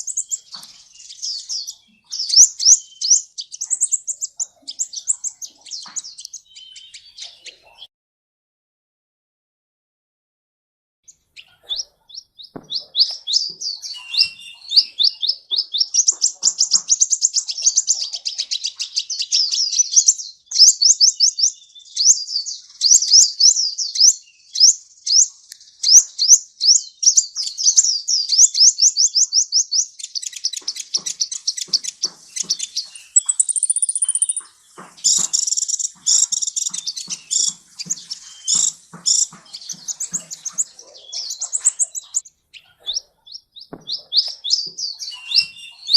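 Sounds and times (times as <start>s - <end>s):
bird singing rapid trills: 0.0s - 7.8s, 11.1s - 45.9s.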